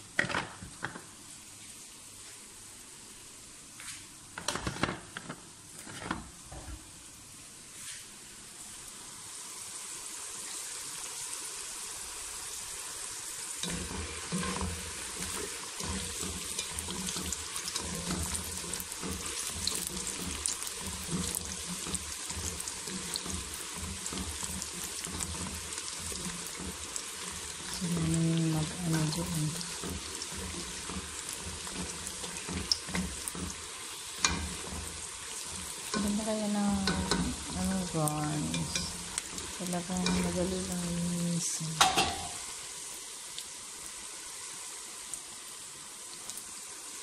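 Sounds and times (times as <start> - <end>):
fries sizzling in hot oil: 5.6 - 47.0.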